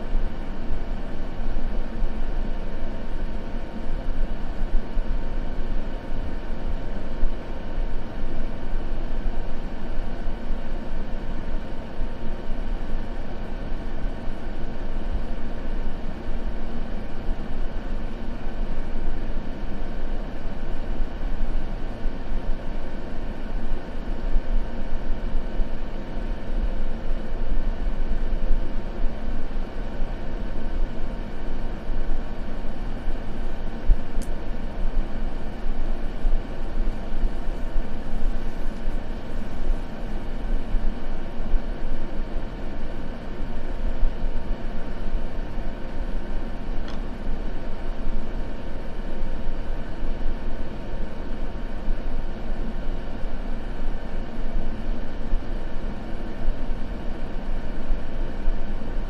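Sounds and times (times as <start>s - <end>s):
white noise ambience: 0.0s - 59.0s.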